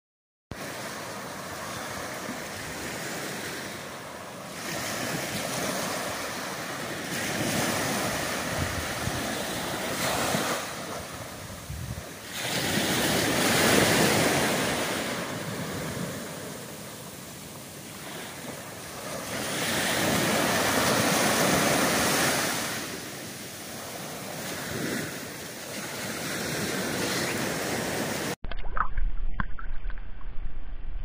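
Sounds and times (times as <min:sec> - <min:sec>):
small waves breaking on beach: 0:00.6 - 0:28.4
wind on microphone: 0:01.5 - 0:31.0.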